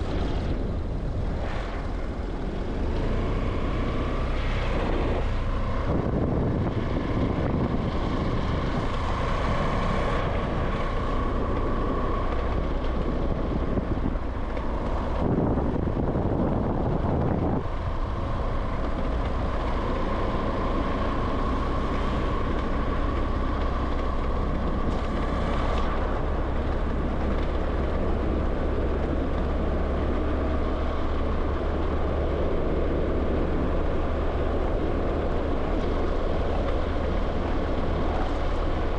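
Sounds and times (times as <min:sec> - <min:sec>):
engine and tyre rumble: 0:00.0 - 0:38.9
loud road rush: 0:00.0 - 0:38.9
wind noise: 0:00.0 - 0:38.9.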